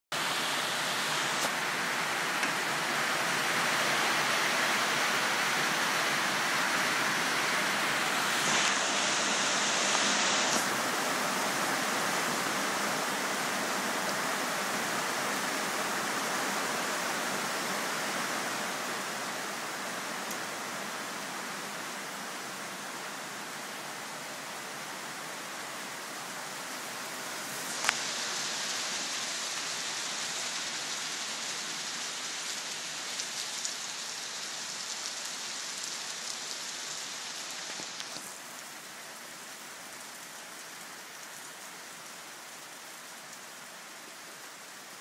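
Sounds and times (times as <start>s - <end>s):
steady rain: 0.1s - 45.0s.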